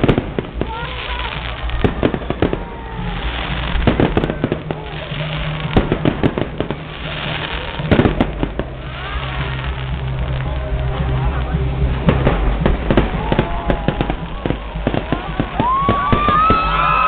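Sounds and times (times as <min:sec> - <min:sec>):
crowd murmuring: 0:00.0 - 0:17.0
fireworks bursting in sharp bangs: 0:00.0 - 0:17.0.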